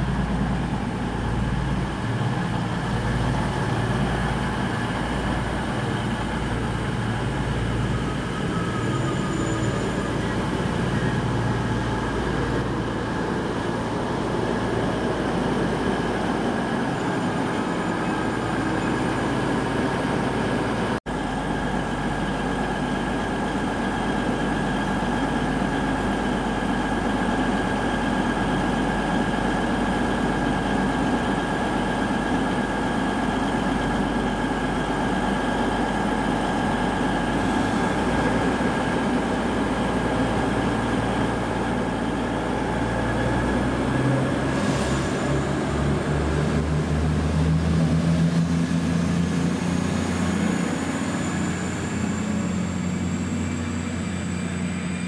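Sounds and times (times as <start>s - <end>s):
constant high whine: 0.0s - 55.0s
diesel train engines idling: 0.0s - 55.0s.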